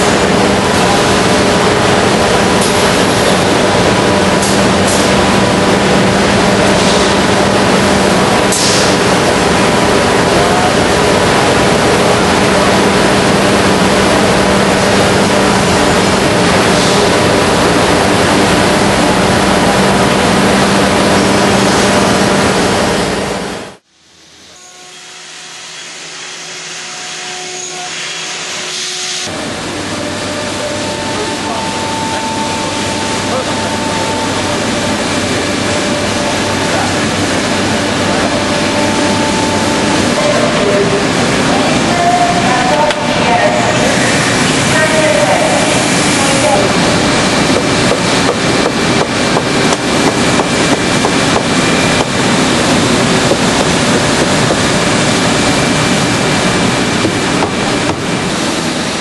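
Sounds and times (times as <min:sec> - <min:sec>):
quieter machine running: 0:00.0 - 0:24.5, 0:29.3 - 0:59.0.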